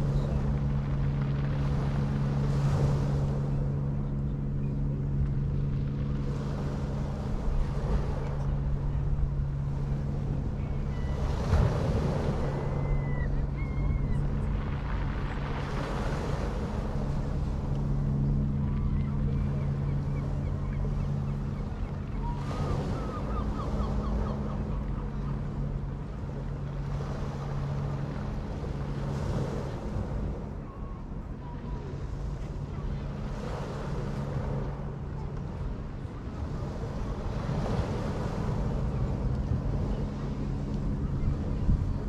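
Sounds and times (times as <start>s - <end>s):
low mechanical hum: 0.0s - 42.0s
sea waves washing ashore: 0.0s - 42.0s
wind on microphone: 0.0s - 42.0s.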